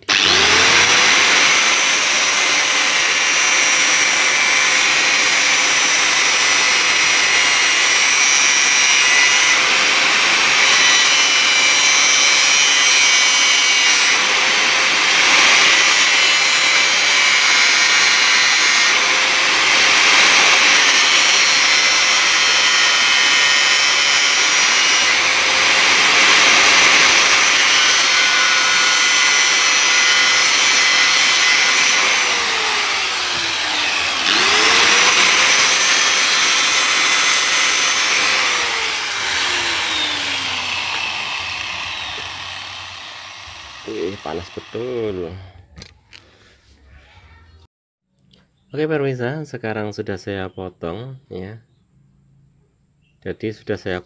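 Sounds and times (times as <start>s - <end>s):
electric grinder whine: 0.0s - 45.4s.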